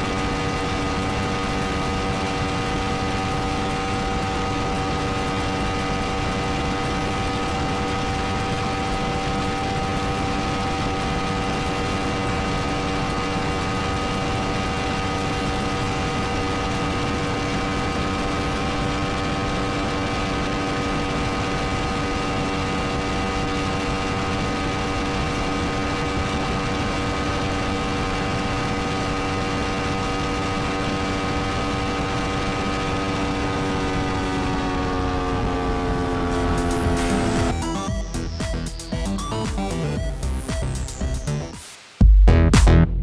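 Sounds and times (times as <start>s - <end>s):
motorcycle engine at high revs: 0.0s - 41.5s.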